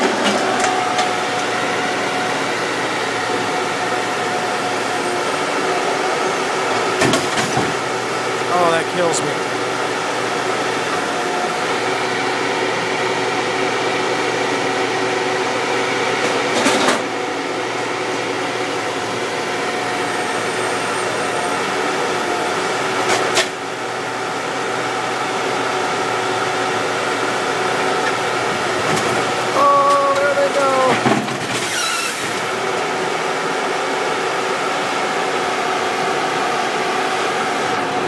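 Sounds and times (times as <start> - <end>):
crusher machine humming and whining: 0.0 - 38.0.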